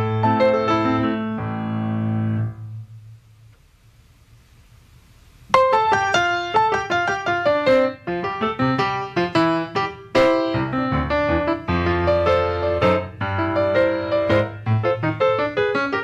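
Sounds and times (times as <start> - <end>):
grand piano solo: 0.0 - 3.0, 5.5 - 16.0.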